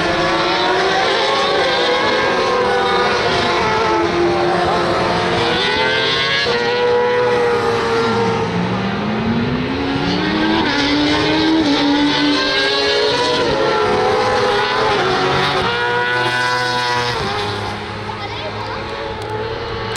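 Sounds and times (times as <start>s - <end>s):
racing engines at high revs passing: 0.0s - 19.9s.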